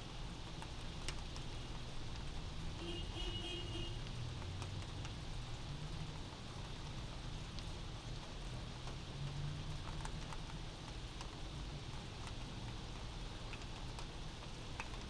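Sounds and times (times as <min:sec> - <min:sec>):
low rumble of city traffic: 0:00.0 - 0:15.0
rain patter: 0:00.0 - 0:15.0.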